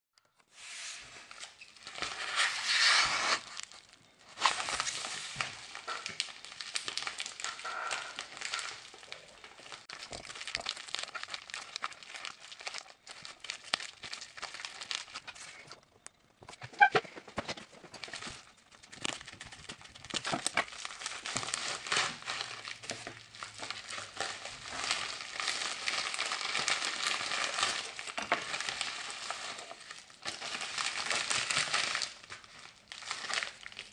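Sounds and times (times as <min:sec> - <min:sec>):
packaging crinkling and rustling: 0:01.0 - 0:33.9.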